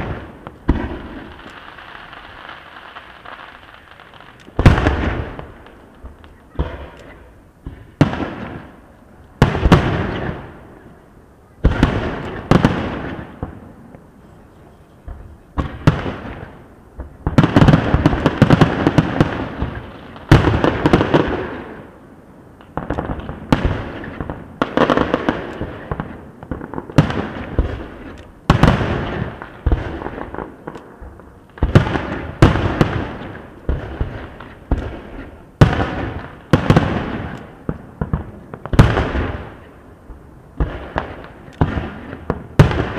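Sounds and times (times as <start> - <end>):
fireworks bursting: 0.0 - 42.9
fireworks crackle: 0.0 - 42.9.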